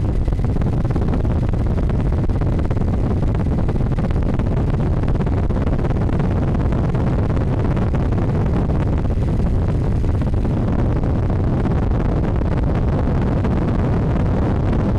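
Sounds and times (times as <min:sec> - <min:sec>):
aircraft engine drone: 0:00.0 - 0:14.9
wind rush on microphone: 0:00.0 - 0:14.9.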